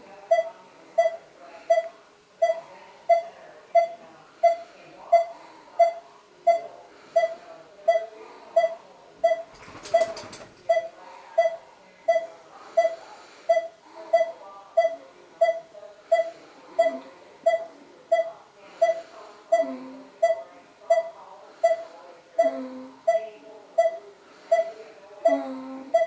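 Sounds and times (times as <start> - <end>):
medical device beeping: 0.3 - 26.0.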